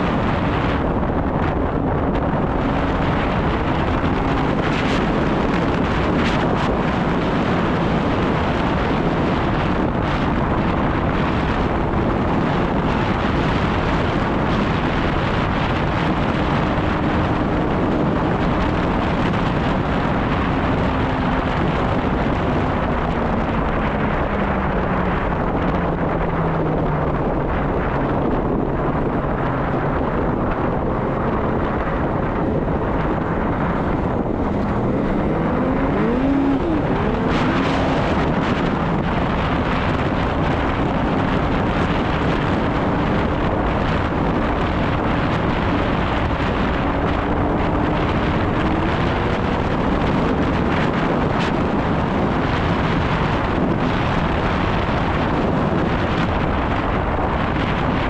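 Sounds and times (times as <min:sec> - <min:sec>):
snowmobile engine running: 0:00.0 - 0:58.0
wind noise on microphone: 0:00.0 - 0:58.0.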